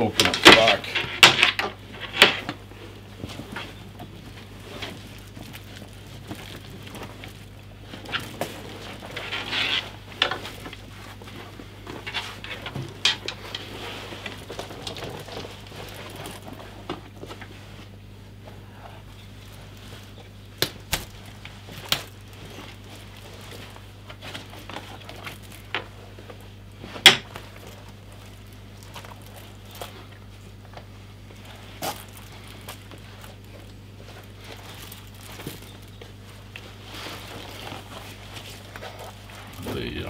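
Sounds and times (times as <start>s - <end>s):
stiff leather rustling: 1.8s - 40.0s.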